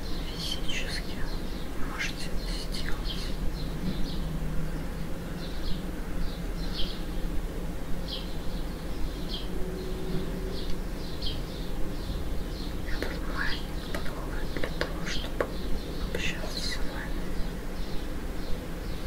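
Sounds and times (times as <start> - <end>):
small birds chirping: 0.0 - 7.3, 8.0 - 19.0.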